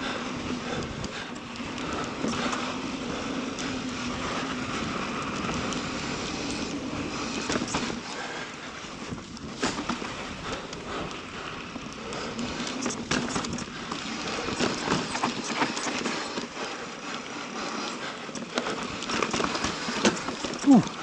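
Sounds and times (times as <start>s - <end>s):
bike tyres crunching over dirt: 0.0s - 21.0s
bike rattling and knocking: 0.5s - 11.0s, 11.7s - 17.0s, 17.9s - 21.0s.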